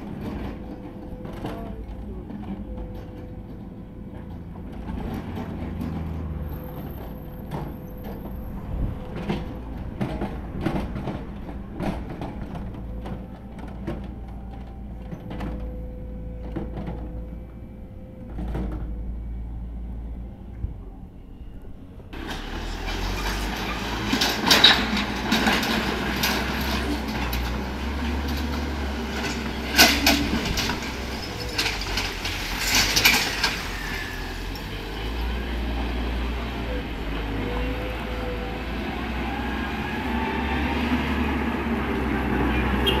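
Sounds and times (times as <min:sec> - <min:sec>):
low vehicle rumble: 0:00.0 - 0:43.0.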